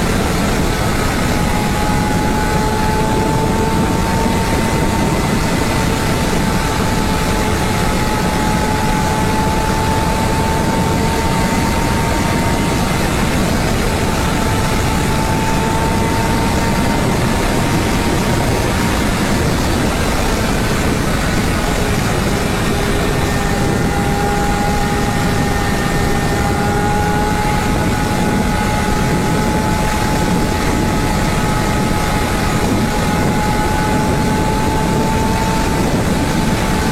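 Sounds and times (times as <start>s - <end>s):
motorcycle engine revving high: 0.0s - 36.9s
wind rush on microphone: 0.0s - 36.9s.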